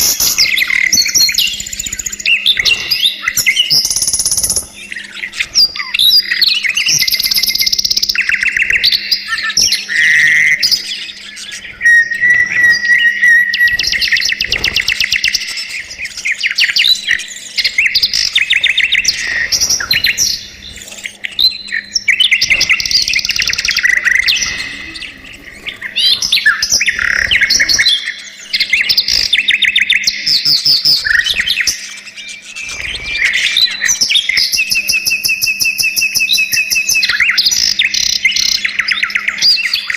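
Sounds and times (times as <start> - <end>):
budgerigars chirping: 0.0 - 39.9
faint steady hum: 0.0 - 39.9.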